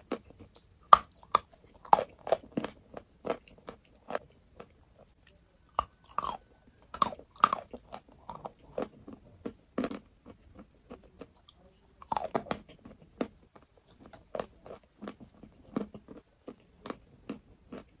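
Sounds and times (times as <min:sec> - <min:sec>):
chewing chalk crunches: 0:00.0 - 0:18.0.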